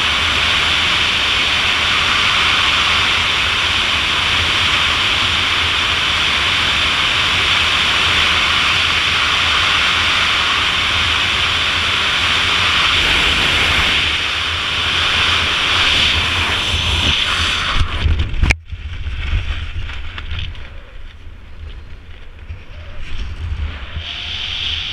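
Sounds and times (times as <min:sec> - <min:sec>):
gusty wind rustle: 0:00.0 - 0:24.9
wind rush: 0:00.0 - 0:24.9.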